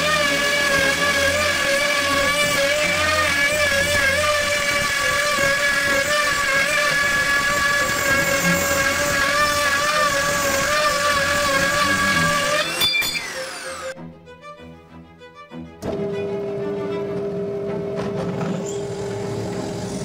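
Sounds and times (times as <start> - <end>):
router motor whine: 0.0 - 14.0, 15.8 - 20.0.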